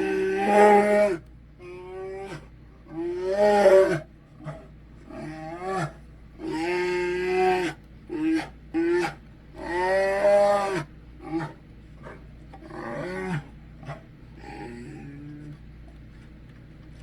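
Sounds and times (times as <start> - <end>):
dog moaning growl-like calls: 0.0 - 15.8.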